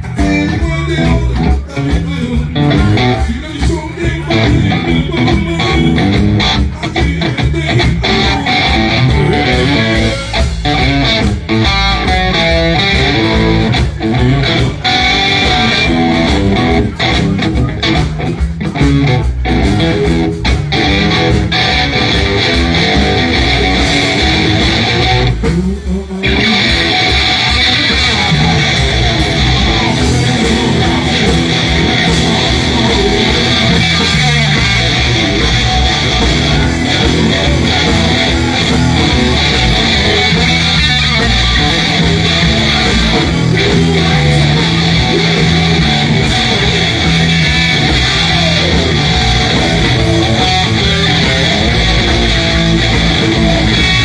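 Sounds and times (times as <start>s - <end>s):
bass guitar: 0.0s - 54.0s
drums: 0.0s - 54.0s
electric guitar: 0.0s - 54.0s.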